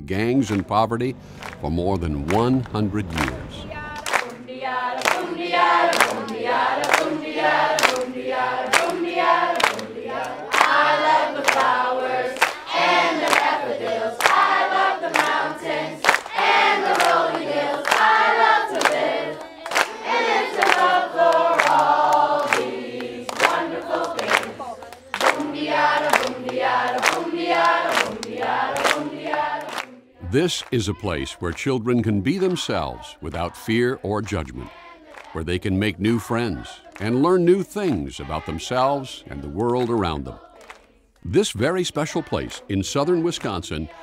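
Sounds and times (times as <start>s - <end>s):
people clapping: 0.2s - 44.0s
group singing: 3.2s - 44.0s.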